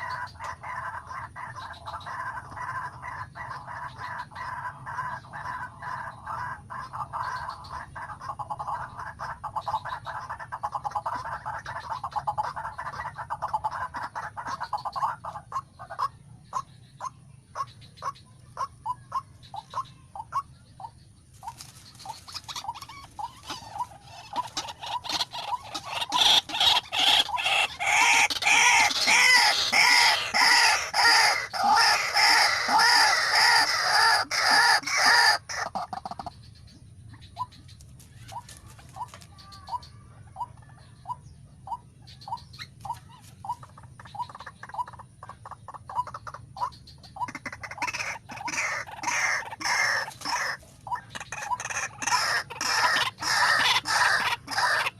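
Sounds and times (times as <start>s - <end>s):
bird croaking calls: 0.0s - 54.9s.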